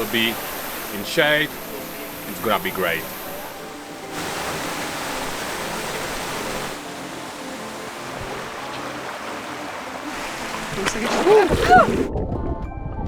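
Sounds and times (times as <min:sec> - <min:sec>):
stream rushing over rocks: 0:00.0 - 0:12.1.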